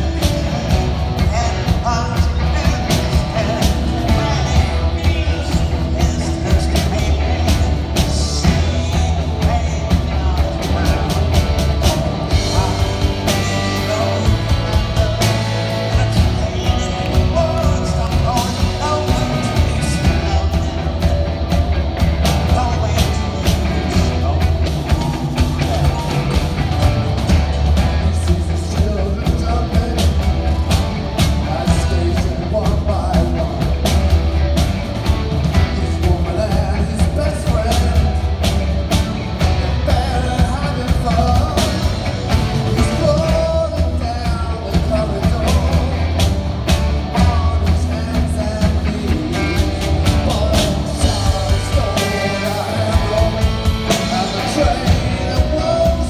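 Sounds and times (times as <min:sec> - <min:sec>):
heavy boomy bass: 0:00.0 - 0:56.0
live rock band playing: 0:00.0 - 0:56.0
man singing lead: 0:00.0 - 0:56.0.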